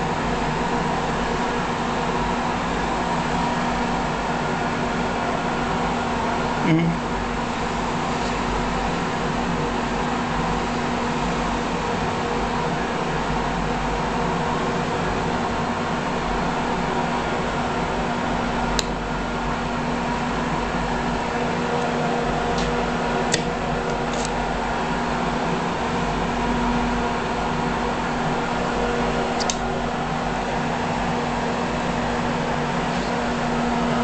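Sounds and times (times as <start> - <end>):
fan humming: 0.0 - 34.0.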